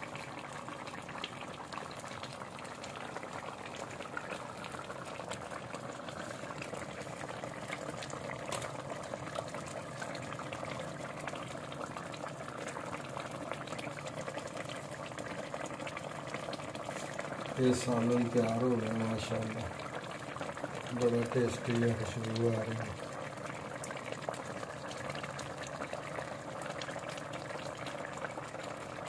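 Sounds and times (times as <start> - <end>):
curry bubbling in a pot: 0.0 - 29.0.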